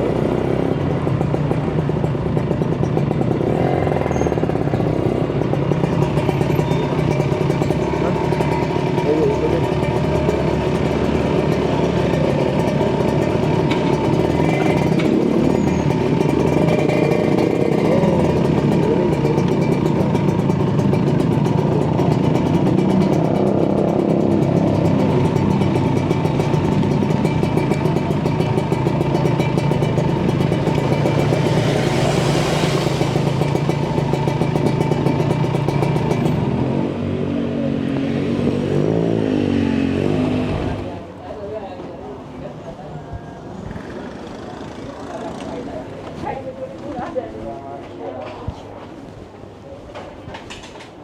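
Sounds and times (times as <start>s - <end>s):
motorcycle engine running: 0.0s - 41.2s.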